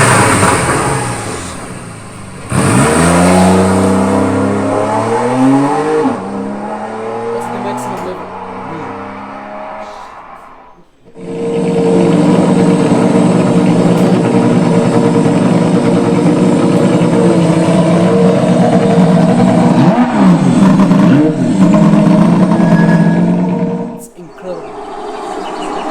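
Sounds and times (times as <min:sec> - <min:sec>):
loud engine-like soundbar note: 0:00.0 - 0:25.9.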